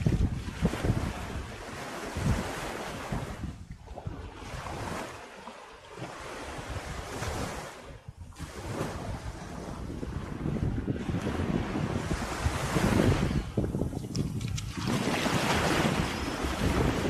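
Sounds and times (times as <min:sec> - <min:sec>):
wind gusting on microphone: 0:00.0 - 0:05.3, 0:05.9 - 0:17.0
small waves washing on sand: 0:00.0 - 0:17.0.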